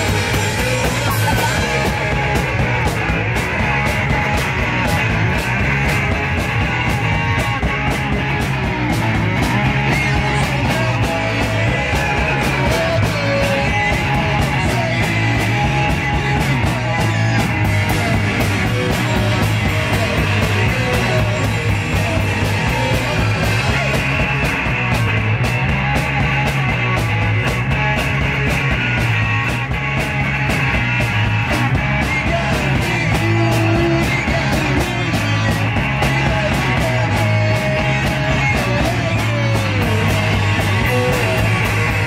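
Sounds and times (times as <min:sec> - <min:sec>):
punk rock band playing: 0:00.0 - 0:42.0.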